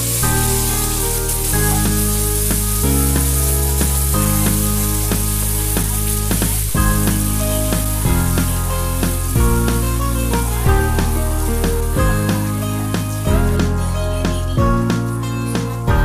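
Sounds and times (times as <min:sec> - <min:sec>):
liquid sizzling in a hot pan: 0:00.0 - 0:14.4
background music with sustained chords: 0:00.0 - 0:16.0.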